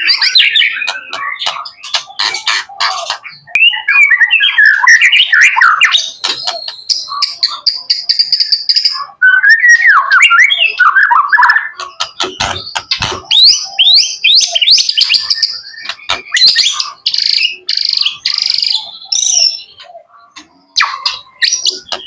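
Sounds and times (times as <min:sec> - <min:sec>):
bird singing whistled song: 0:00.0 - 0:22.0.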